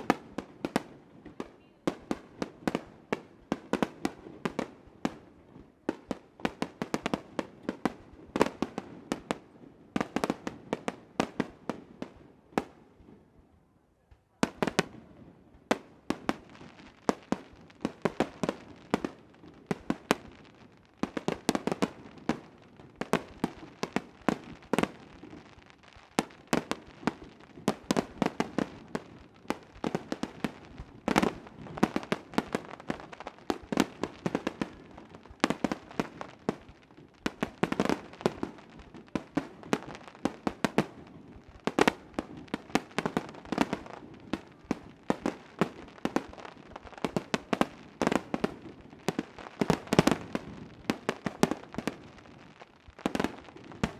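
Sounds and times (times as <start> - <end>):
fireworks bursting: 0.0 - 13.5, 14.1 - 53.9.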